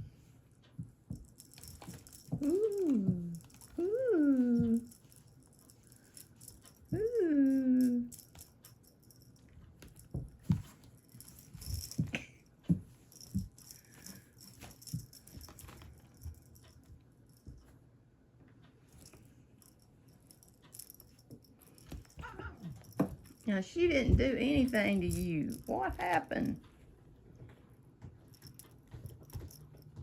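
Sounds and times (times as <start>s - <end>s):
cat toy rattling and jingling: 1.1s - 17.6s, 19.0s - 26.6s, 28.2s - 30.0s.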